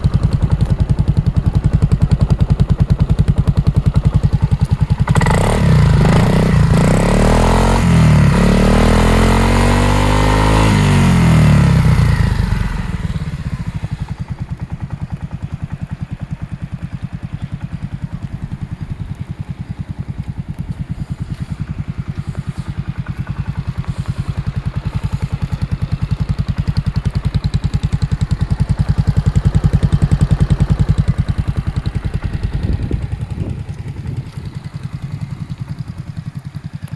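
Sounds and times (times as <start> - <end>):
scooter engine revving and idling: 0.0 - 36.9.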